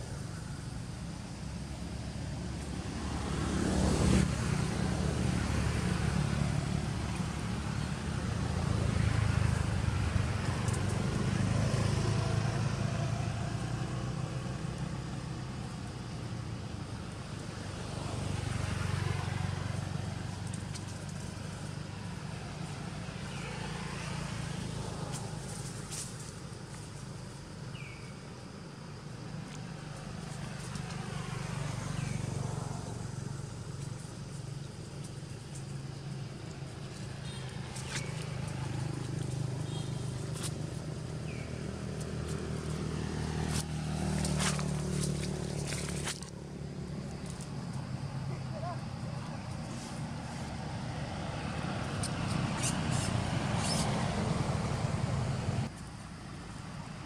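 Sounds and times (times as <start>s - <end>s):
low traffic hum: 0.0s - 57.0s
vehicle passing: 0.7s - 26.0s, 29.7s - 55.7s.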